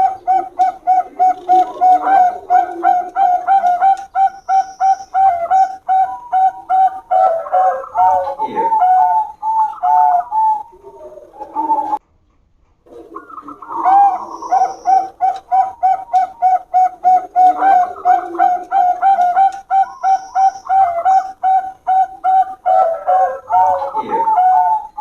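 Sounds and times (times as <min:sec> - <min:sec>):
dove cooing: 0:00.0 - 0:12.0, 0:12.9 - 0:25.0.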